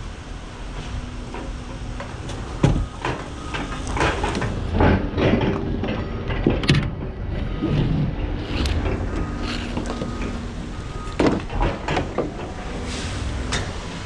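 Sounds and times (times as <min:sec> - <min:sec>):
scrap metal clanking: 0:00.8 - 0:13.9.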